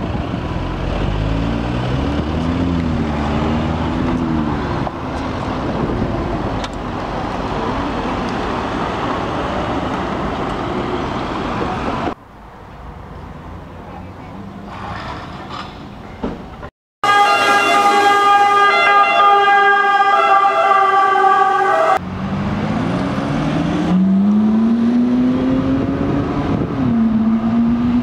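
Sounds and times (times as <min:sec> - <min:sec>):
quiet street hum: 0:00.0 - 0:28.0
road traffic: 0:00.0 - 0:28.0.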